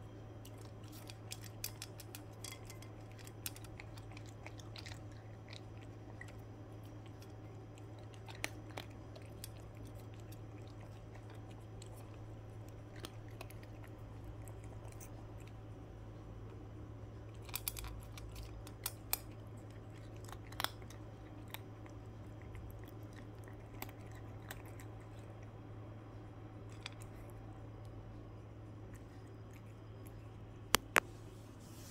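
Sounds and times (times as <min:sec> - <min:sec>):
steady low hum: 0:00.0 - 0:31.9
cat crunching dry kibble: 0:00.2 - 0:31.0.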